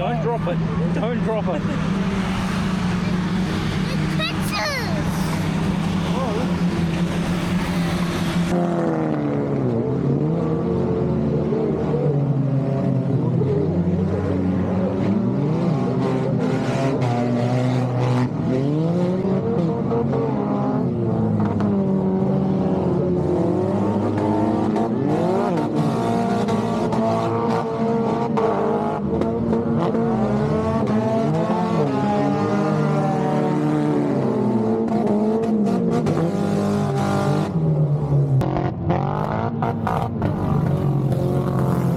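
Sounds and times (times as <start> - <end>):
race car engines revving: 0.0 - 41.9.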